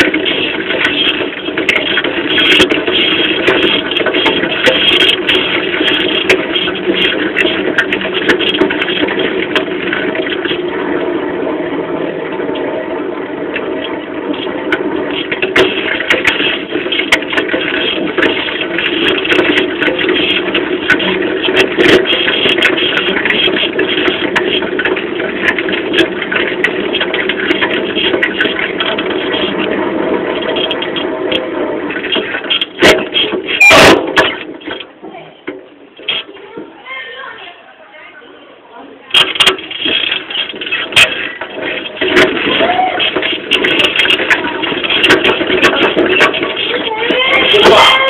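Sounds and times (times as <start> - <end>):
bicycle tyre rolling: 0.0 - 48.0.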